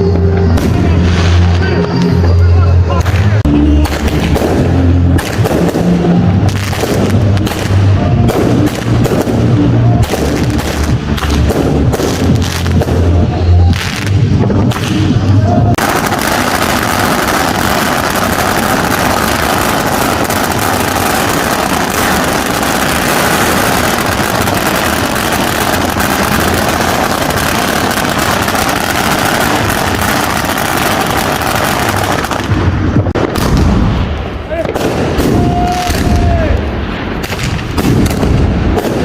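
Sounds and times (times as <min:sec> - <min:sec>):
firecrackers crackling: 0:00.0 - 0:39.0.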